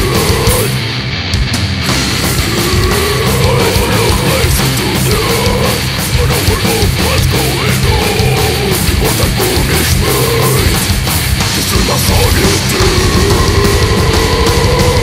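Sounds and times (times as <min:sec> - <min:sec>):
distorted guitars: 0:00.0 - 0:15.0
fast drumming with cymbals: 0:00.0 - 0:15.0.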